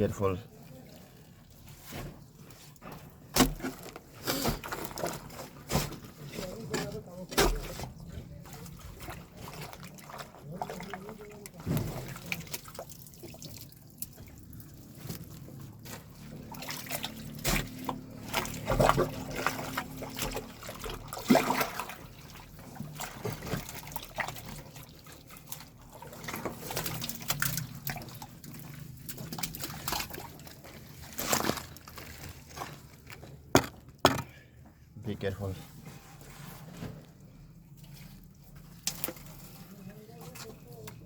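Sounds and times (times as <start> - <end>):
drain water sloshing and splashing: 0.0 - 41.0.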